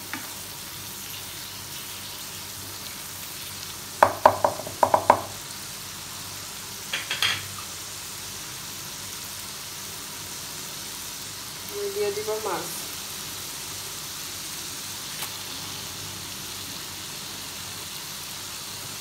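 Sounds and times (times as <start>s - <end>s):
paste sizzling in frying pan: 0.0s - 19.0s.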